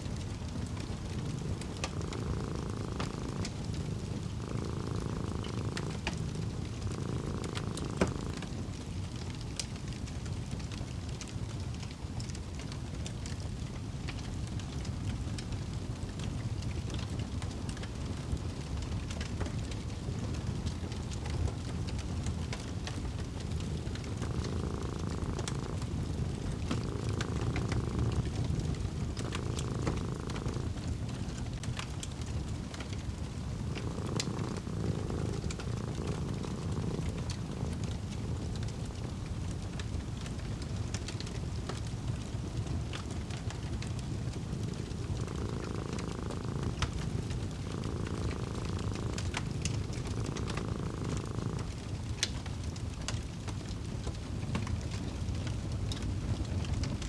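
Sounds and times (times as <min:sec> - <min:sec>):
cat purring: 0:00.0 - 0:57.0
fire crackling: 0:00.0 - 0:57.0.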